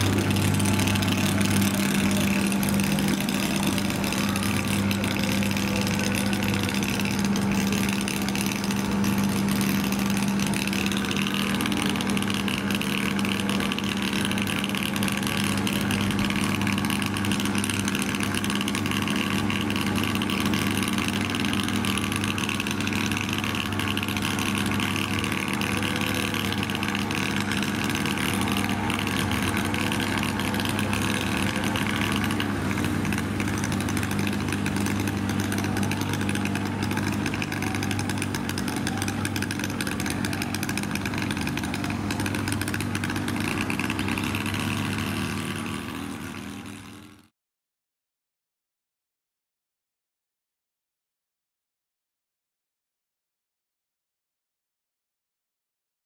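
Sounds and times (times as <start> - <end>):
diesel train engine idling: 0.0 - 47.3.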